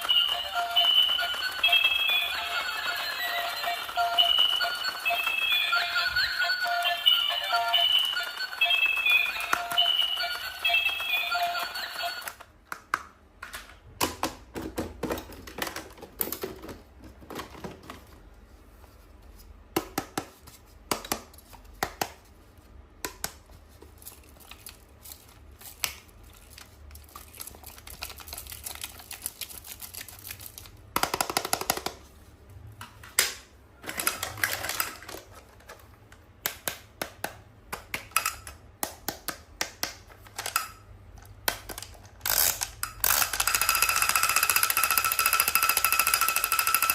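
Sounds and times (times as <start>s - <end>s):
plastic toys clicking and tapping: 0.0s - 18.0s, 23.0s - 32.1s, 33.2s - 46.9s.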